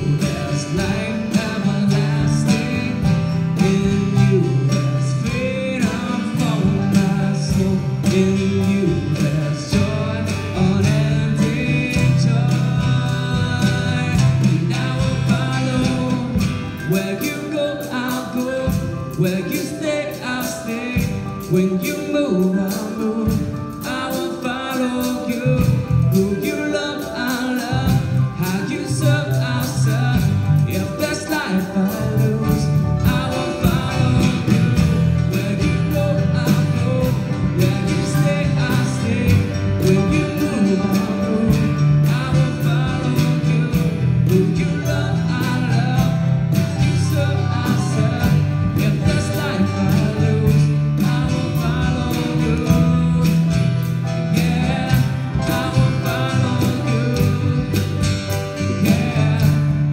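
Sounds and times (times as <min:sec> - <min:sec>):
electric bass: 0:00.0 - 0:59.9
strummed acoustic guitar: 0:00.0 - 0:59.9.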